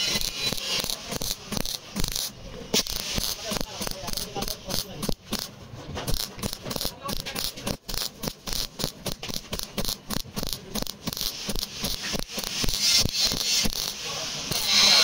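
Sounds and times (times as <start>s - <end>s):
welder crackling: 0.0s - 15.0s.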